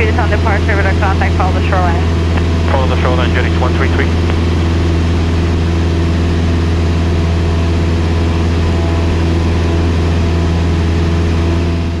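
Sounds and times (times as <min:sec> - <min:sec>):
airplane engine drone in cabin: 0:00.0 - 0:12.0.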